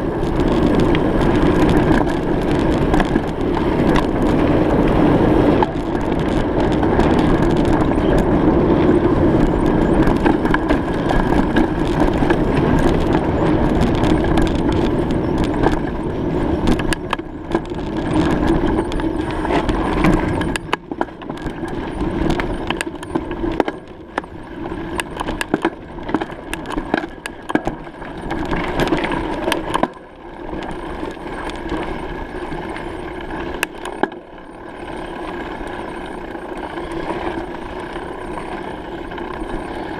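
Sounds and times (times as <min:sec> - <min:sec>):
bicycle rattles and clicks: 0:00.0 - 0:39.9
bicycle rolling rumble: 0:00.0 - 0:39.9.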